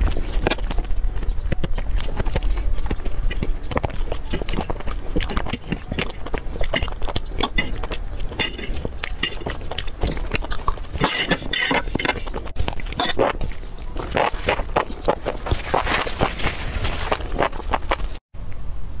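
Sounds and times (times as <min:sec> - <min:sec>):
chewing: 0:00.0 - 0:18.2
utensils clinking against dishes: 0:01.8 - 0:17.5.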